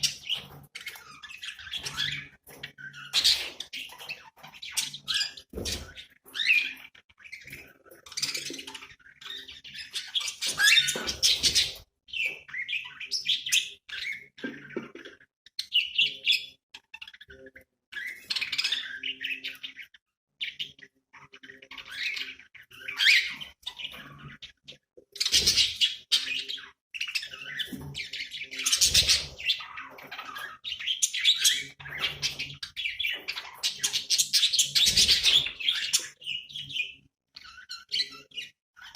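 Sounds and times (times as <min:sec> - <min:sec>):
budgies chirping and warbling: 0:00.0 - 0:38.9.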